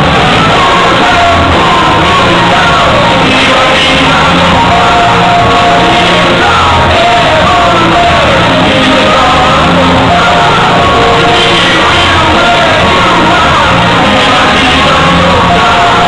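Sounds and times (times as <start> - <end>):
loud rock song with singer: 0.0 - 16.0.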